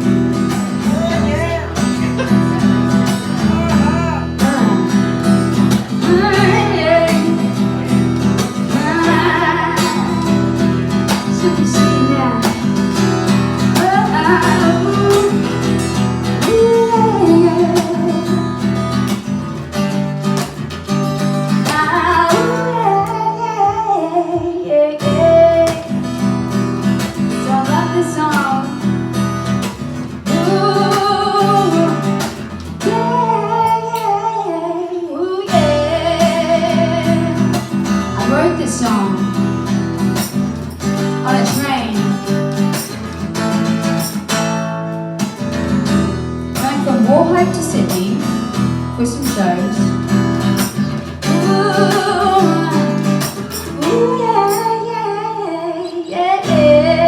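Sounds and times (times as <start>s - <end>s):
acoustic guitar strumming: 0.0s - 57.0s
woman singing wordless lines: 0.1s - 19.1s, 21.5s - 26.2s, 26.8s - 29.0s, 30.2s - 39.8s, 41.0s - 42.3s, 46.6s - 50.5s, 51.1s - 57.0s.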